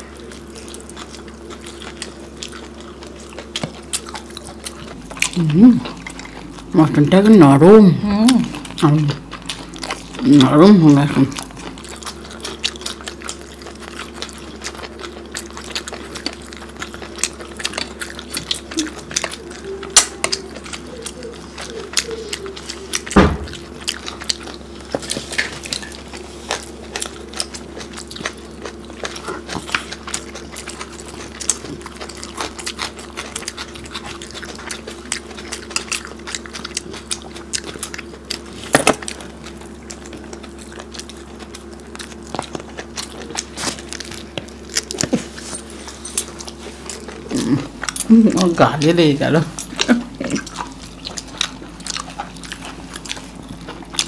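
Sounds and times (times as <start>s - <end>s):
steady low hum: 0.0s - 54.0s
wet chewing and smacking: 0.0s - 54.0s.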